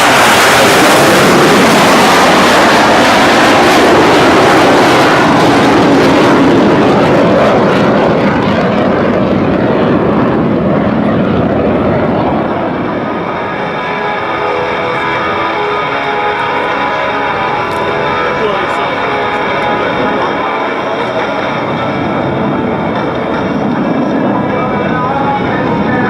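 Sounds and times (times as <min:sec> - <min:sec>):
jets passing low: 0:00.0 - 0:26.0.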